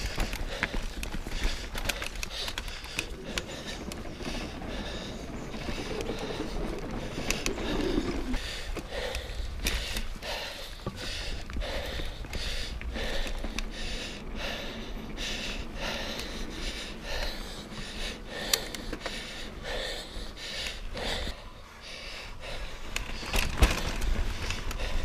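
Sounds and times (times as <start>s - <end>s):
person breathing hard: 0.0s - 25.0s.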